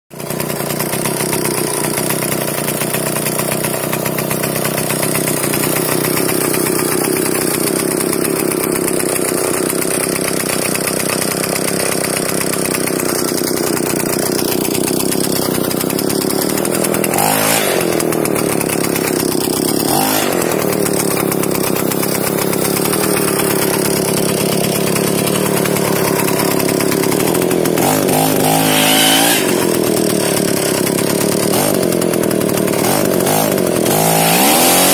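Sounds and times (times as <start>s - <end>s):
two-stroke engine running: 0.1s - 34.9s.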